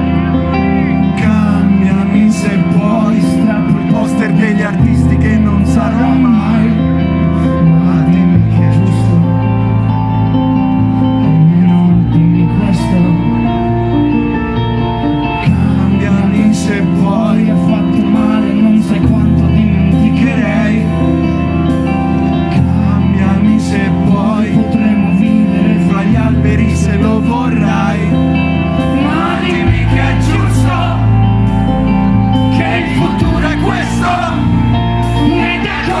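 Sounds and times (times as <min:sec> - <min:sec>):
rock band playing: 0:00.0 - 0:36.0
man singing: 0:01.0 - 0:10.0, 0:11.0 - 0:14.0, 0:15.3 - 0:21.4, 0:22.2 - 0:31.3, 0:32.4 - 0:36.0.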